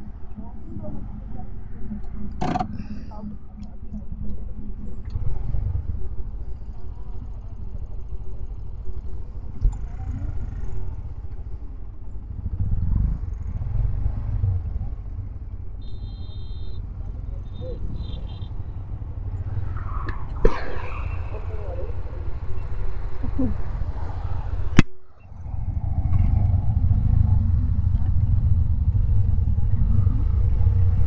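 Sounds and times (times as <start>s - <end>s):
motorcycle engines idling: 0.0s - 19.6s, 21.0s - 30.9s.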